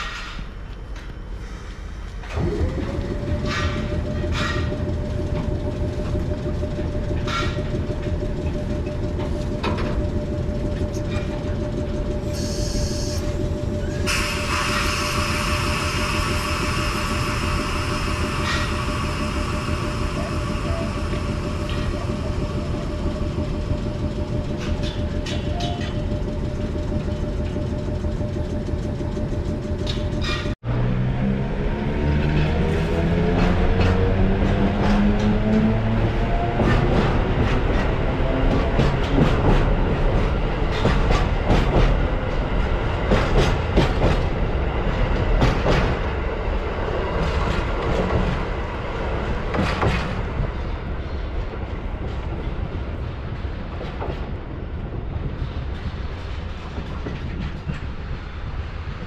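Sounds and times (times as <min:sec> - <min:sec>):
locomotive machinery hum: 0:00.0 - 0:59.0.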